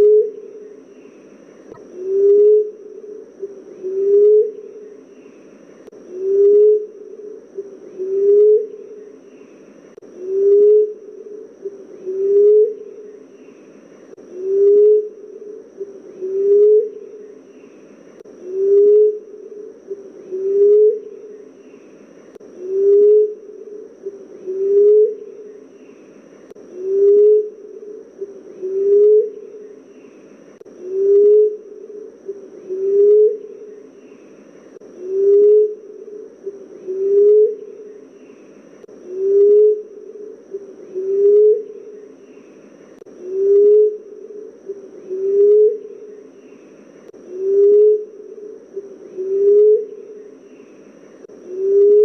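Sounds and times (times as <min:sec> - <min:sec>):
dove cooing: 0:00.0 - 0:05.4, 0:06.0 - 0:52.0
faint high hiss: 0:00.0 - 0:52.0.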